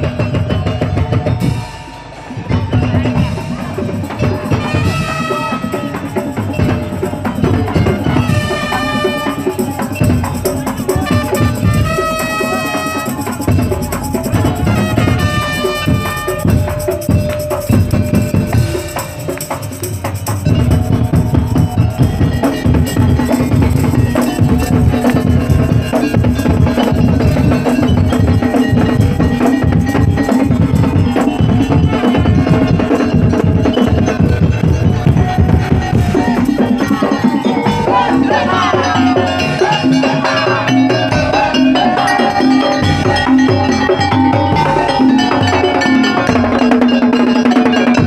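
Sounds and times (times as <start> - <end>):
heavy fast drumming: 0.0 - 48.0
pitched melodic percussion notes: 0.0 - 48.0.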